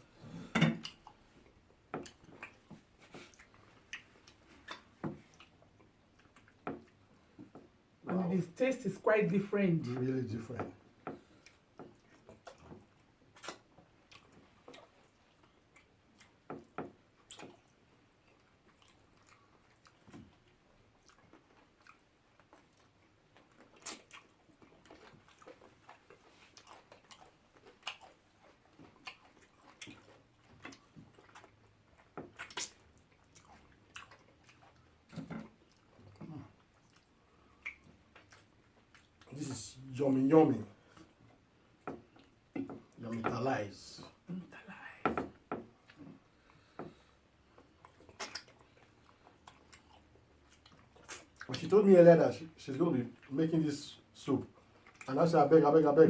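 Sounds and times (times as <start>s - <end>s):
people chewing and lip smacking: 0.3s - 8.0s, 10.6s - 39.4s, 40.6s - 43.4s, 44.0s - 51.7s, 54.4s - 55.1s.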